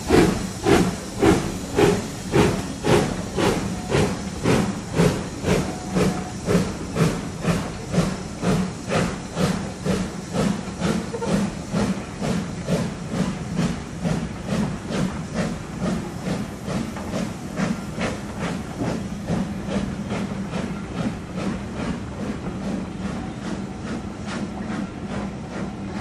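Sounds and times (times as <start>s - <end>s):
steam hissing: 0.0s - 26.0s
steam locomotive exhaust chuffing: 0.0s - 26.0s.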